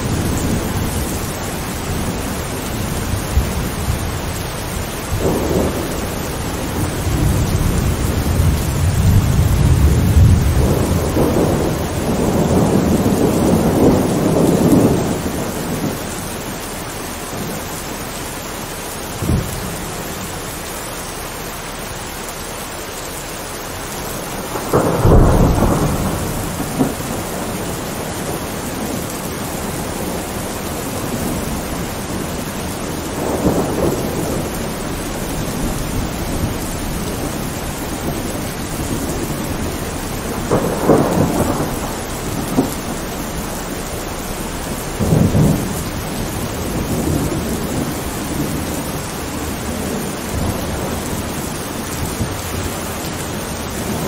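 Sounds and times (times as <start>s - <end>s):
thunder rolling: 0.0s - 18.0s, 23.8s - 54.0s
rain falling: 0.0s - 54.0s.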